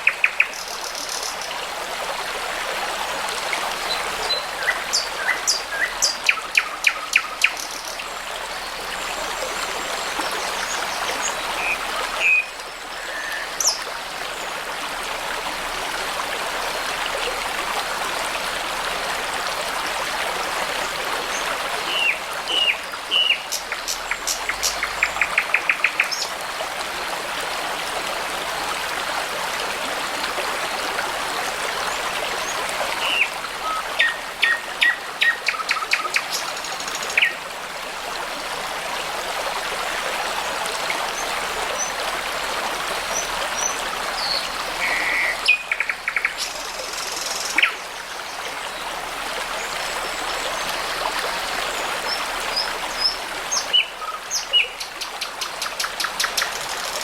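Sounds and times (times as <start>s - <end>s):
brook babbling: 0.0s - 57.0s.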